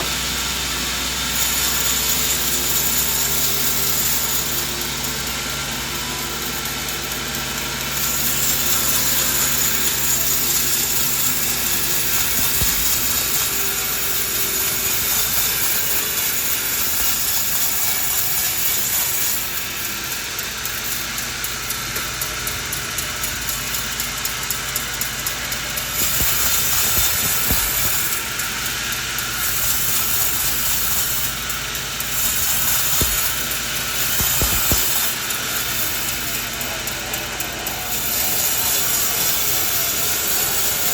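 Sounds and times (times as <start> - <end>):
sawmill blade cutting wood: 0.0 - 40.9.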